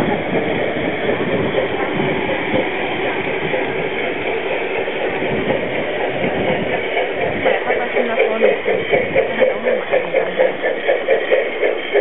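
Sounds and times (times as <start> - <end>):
model train wheels rumbling: 0.0 - 12.0.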